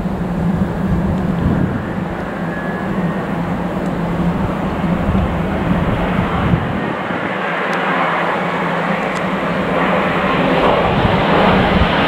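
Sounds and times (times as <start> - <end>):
jet engine rumble and roar: 0.0 - 12.0.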